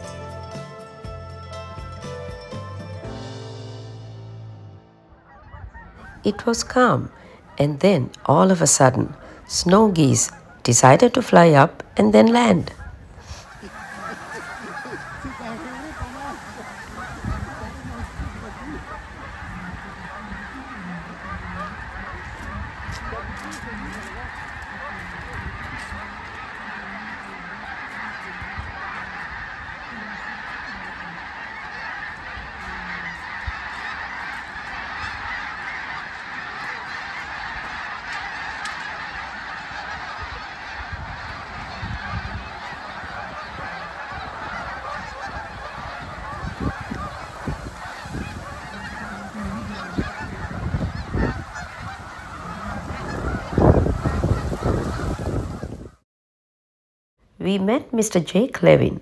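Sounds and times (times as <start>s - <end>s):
geese honking: 0.0s - 56.0s.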